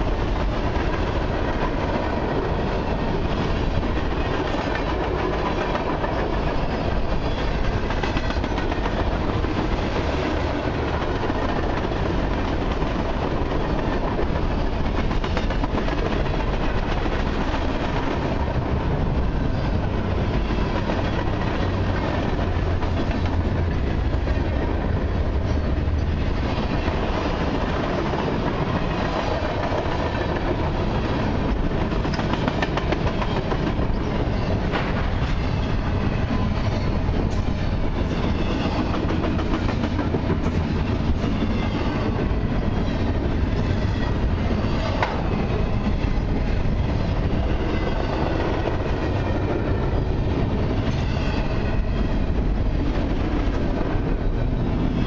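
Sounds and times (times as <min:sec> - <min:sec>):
train wheels rumbling on rail: 0:00.0 - 0:55.0
wheels clicking over rail joints: 0:03.5 - 0:49.6.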